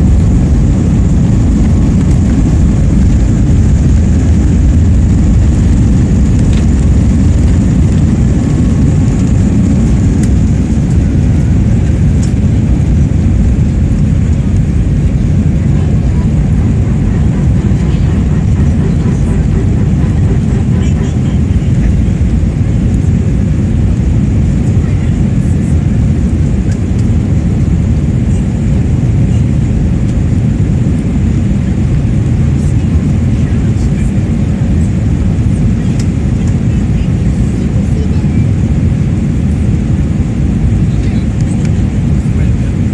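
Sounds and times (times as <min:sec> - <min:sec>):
jet engine cabin rumble: 0:00.0 - 0:42.9.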